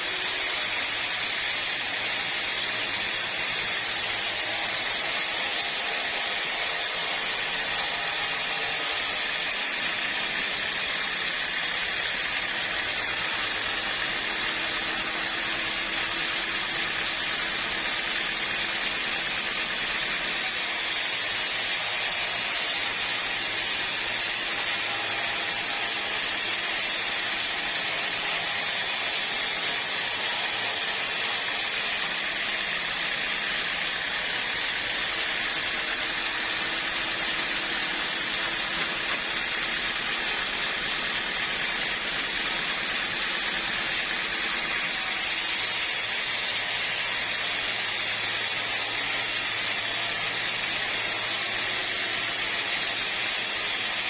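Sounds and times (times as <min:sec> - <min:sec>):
sawmill machinery hissing: 0:00.0 - 0:54.0.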